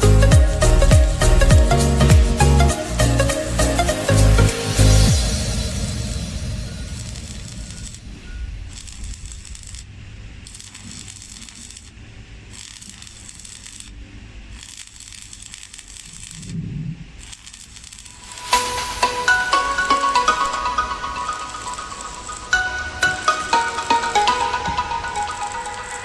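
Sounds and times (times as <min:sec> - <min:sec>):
arc welding crackling and hissing: 0:02.9 - 0:20.6, 0:21.3 - 0:24.2, 0:25.2 - 0:26.0.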